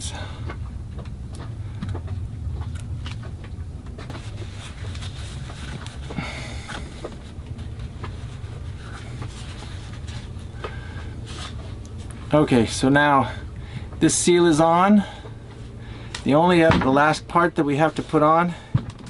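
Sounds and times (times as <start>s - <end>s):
low rumble: 0.0s - 17.3s.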